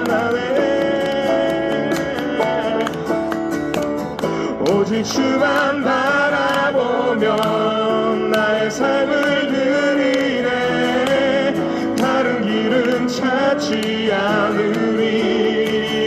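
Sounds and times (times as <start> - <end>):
man singing: 0.0 - 3.2, 4.3 - 16.0
acoustic guitar strumming: 0.0 - 16.0.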